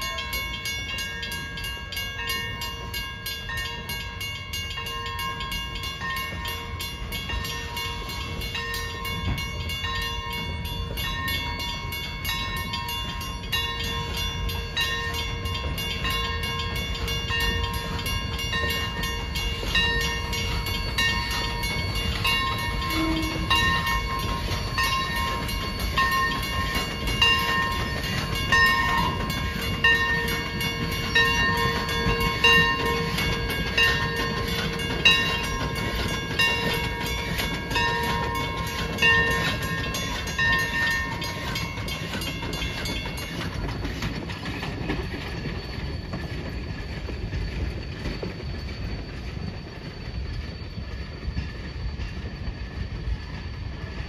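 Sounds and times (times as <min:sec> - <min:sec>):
crossing warning bell ringing: 0:00.0 - 0:53.1
train cars rumbling: 0:00.0 - 0:54.0.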